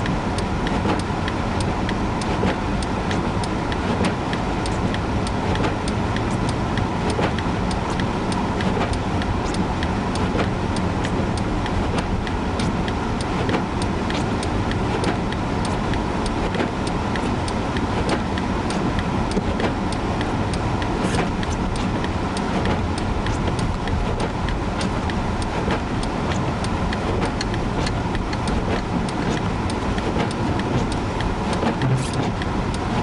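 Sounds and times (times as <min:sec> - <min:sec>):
car engine and road noise: 0:00.0 - 0:33.0
light ticks: 0:00.0 - 0:33.0.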